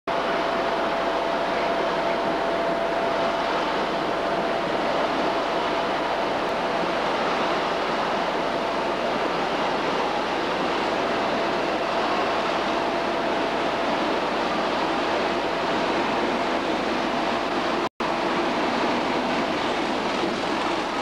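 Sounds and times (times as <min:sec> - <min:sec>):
diesel locomotive engine idling: 0:00.1 - 0:21.0.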